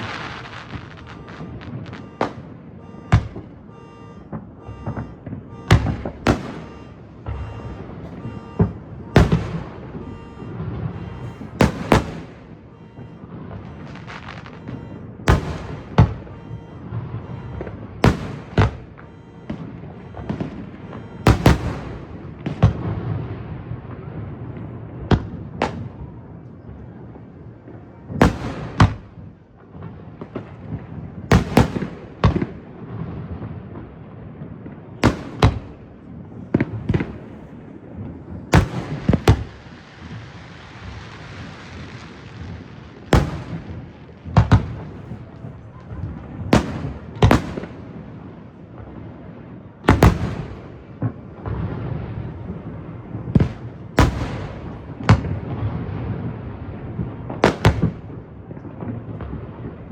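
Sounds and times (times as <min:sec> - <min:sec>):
fireworks bangs: 0:00.0 - 0:59.9
hissing crackle of fireworks: 0:00.0 - 0:59.9.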